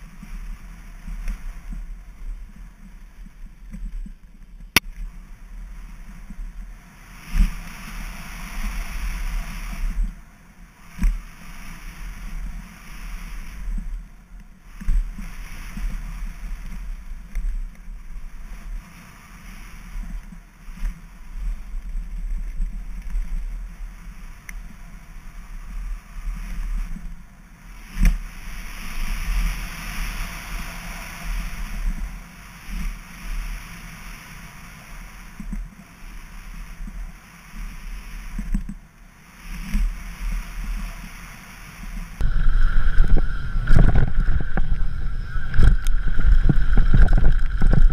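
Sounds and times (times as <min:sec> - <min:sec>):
bike tyres rolling on gravel: 0:00.0 - 0:47.9
wind buffeting on camera: 0:05.1 - 0:47.9.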